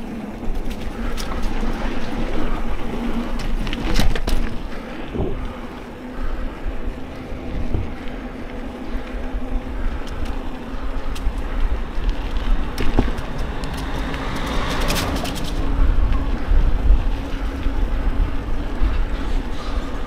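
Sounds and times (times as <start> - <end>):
bike rattling clicks: 0.0 - 20.0
tyres rumbling on ground: 0.0 - 20.0
wind buffeting microphone: 0.0 - 20.0.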